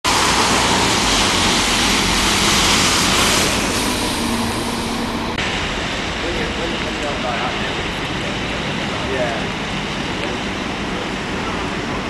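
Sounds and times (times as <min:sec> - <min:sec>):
bus engines running: 0:00.1 - 0:12.0
steady engine hum: 0:00.1 - 0:12.0
tyres hissing on wet road: 0:00.1 - 0:12.0.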